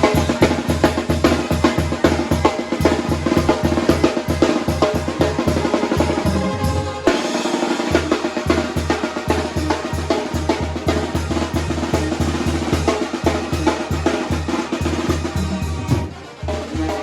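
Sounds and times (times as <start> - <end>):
brass band playing: 0.0 - 17.0
snare and bass drum beat: 0.0 - 17.0.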